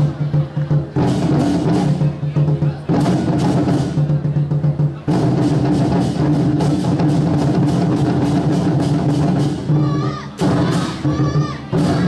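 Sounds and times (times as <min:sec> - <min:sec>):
barrel drums beaten rapidly: 0:00.0 - 0:12.0.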